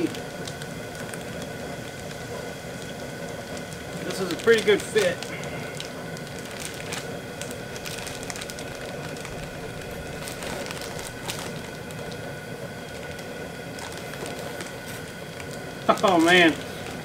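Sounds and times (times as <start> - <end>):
plastic bag crinkling: 0.0 - 2.2, 3.5 - 17.0
steady background hum: 0.0 - 17.0.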